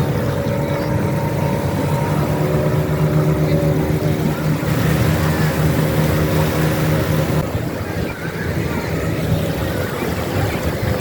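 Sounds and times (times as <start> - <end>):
motorboat engine running: 0.0 - 11.0
rushing wind: 0.0 - 11.0
water noise: 0.0 - 11.0.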